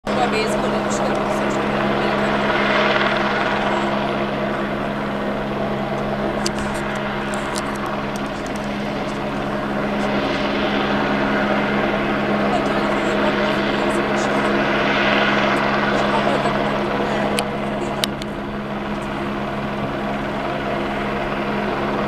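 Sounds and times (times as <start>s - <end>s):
helicopter droning: 0.0s - 22.0s.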